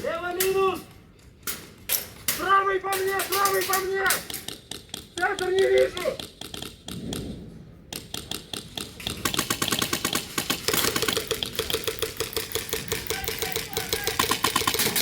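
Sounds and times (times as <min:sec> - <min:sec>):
airsoft guns firing automatic: 0:02.3 - 0:15.0.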